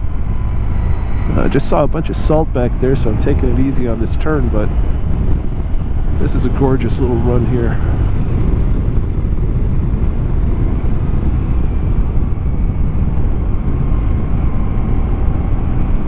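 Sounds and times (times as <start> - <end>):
motorcycle engine rumble: 0.0 - 16.0
wind rush: 0.0 - 16.0.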